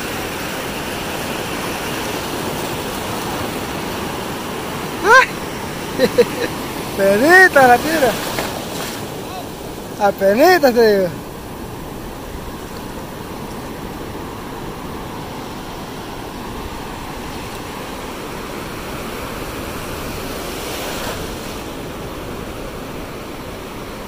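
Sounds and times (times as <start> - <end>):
ocean surf washing on beach: 0.0 - 24.0.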